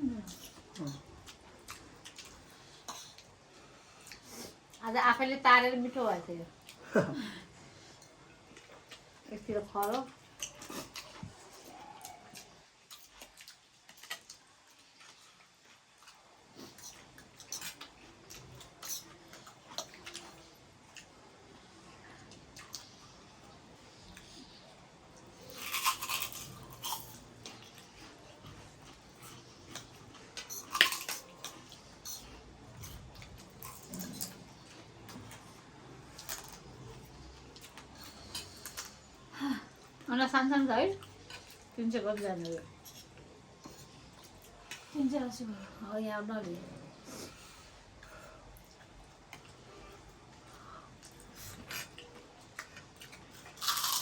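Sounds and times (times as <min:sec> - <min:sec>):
people chewing noodles: 0:00.0 - 0:04.9, 0:06.0 - 0:54.0.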